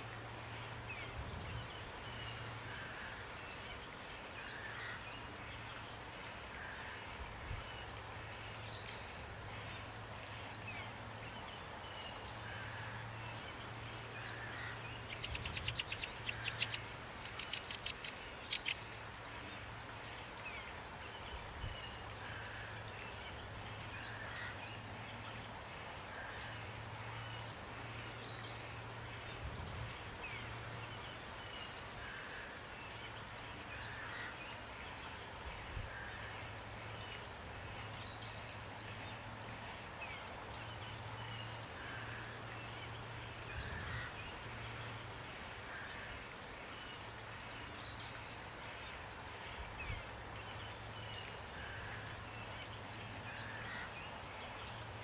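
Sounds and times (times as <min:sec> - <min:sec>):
rain hiss: 0:00.0 - 0:55.0
small birds chirping and trilling: 0:06.6 - 0:55.0.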